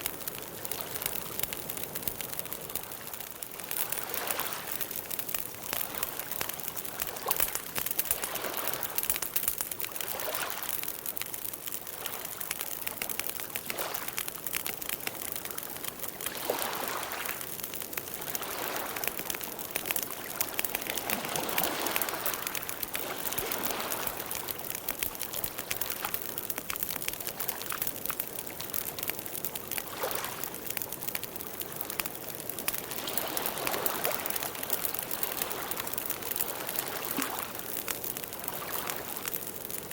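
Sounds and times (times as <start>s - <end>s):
campfire crackling and popping: 0.0s - 39.9s
soft fire hiss: 0.0s - 39.9s.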